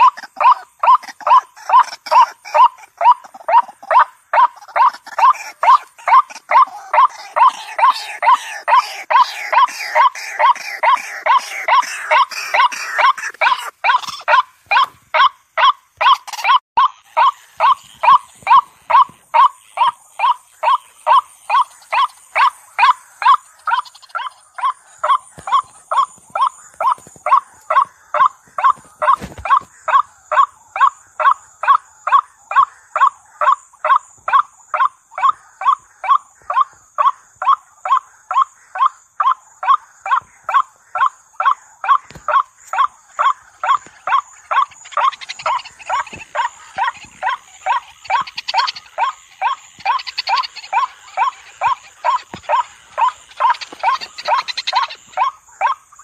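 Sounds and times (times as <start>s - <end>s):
waterhen calling: 0.0s - 56.0s.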